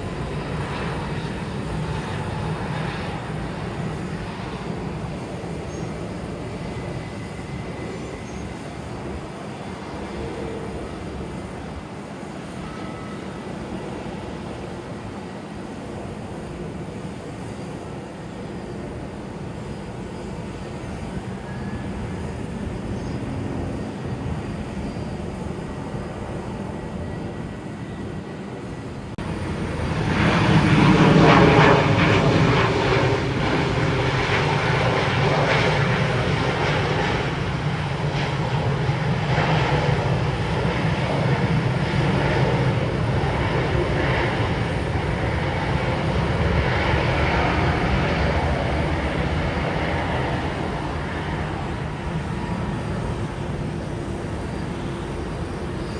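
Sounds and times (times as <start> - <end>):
aircraft approaching: 0.0 - 55.9
jet airliner engines rumbling: 0.0 - 55.9.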